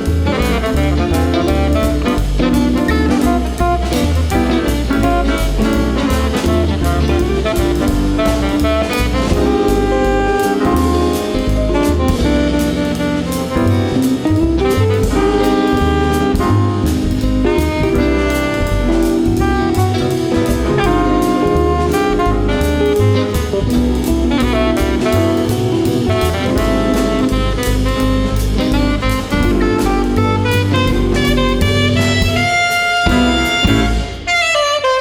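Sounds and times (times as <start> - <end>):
jazz band playing: 0.0 - 35.0
saxophone: 0.0 - 35.0.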